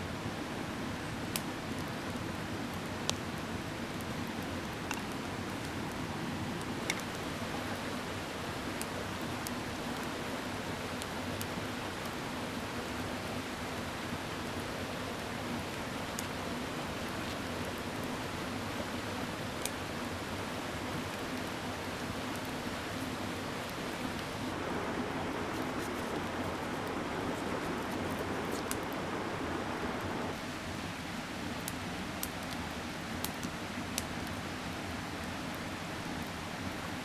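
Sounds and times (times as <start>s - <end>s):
campfire crackling: 0.0s - 37.0s
mountain stream rushing: 0.0s - 37.0s.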